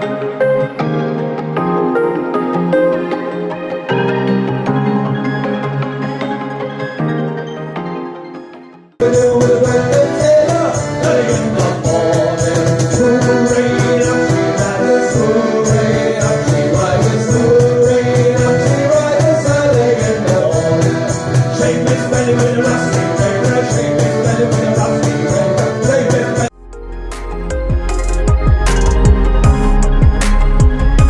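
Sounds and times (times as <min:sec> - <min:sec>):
music with steady beat and melody: 0:00.0 - 0:31.0.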